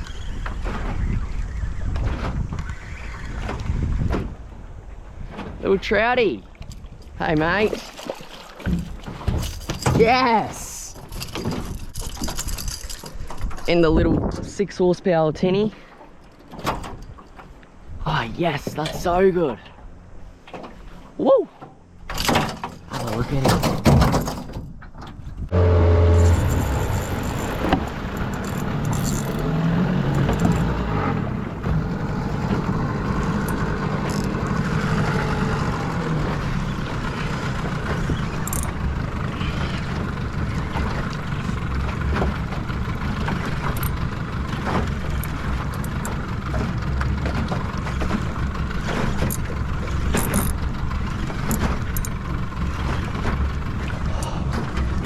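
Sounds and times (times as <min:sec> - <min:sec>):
outboard motor rumbling: 0:00.0 - 0:14.4, 0:15.3 - 0:55.0.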